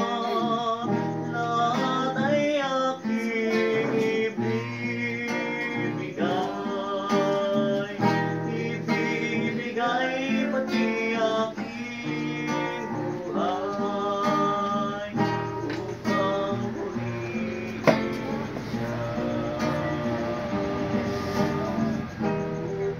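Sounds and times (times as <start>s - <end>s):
acoustic guitar strumming chords: 0.0s - 22.9s.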